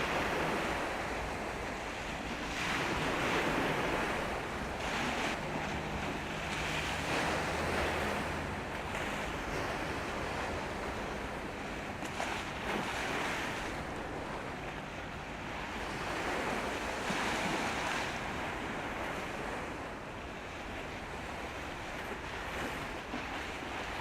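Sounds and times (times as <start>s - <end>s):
sea water rushing: 0.0s - 24.0s
wind: 0.0s - 24.0s
wind buffeting microphone: 0.0s - 24.0s.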